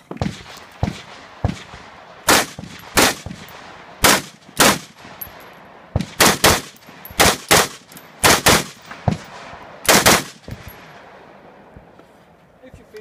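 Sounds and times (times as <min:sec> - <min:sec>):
rifle shots with echo: 0:00.1 - 0:11.9.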